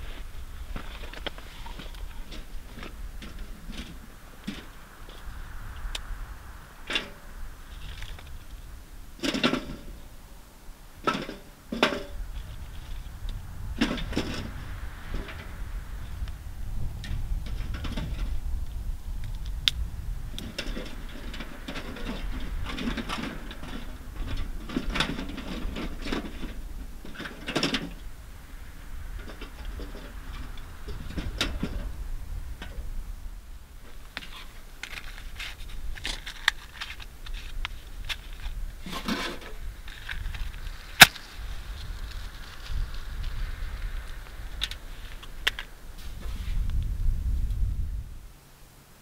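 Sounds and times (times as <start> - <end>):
rustling and light knocks: 0.0 - 6.2, 11.0 - 32.9, 33.8 - 46.9
low steady rumble: 0.0 - 49.0.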